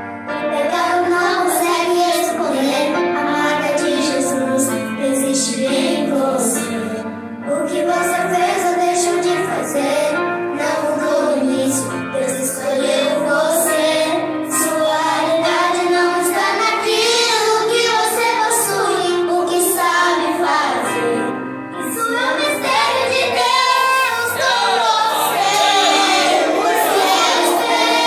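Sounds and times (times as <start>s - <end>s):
children singing gospel song: 0.4s - 7.0s, 7.6s - 28.0s
girl singing into microphone: 0.4s - 28.0s.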